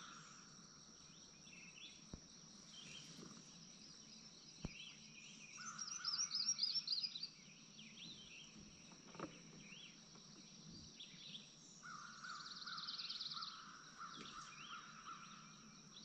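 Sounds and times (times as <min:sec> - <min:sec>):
songbirds singing: 0:00.0 - 0:16.0.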